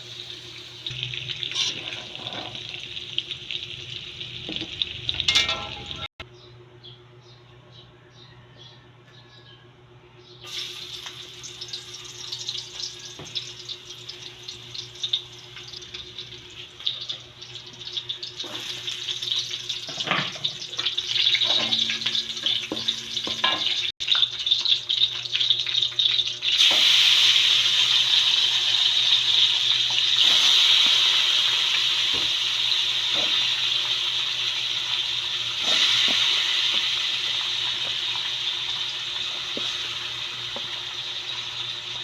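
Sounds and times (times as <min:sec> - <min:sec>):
food sizzling in hot oil: 0:00.0 - 0:06.1, 0:10.5 - 0:42.0.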